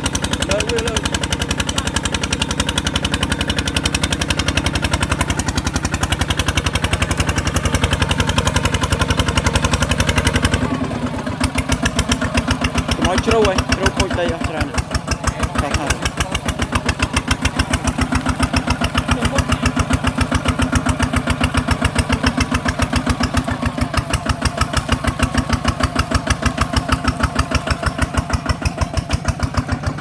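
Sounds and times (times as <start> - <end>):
diesel engine chugging: 0.0 - 30.0.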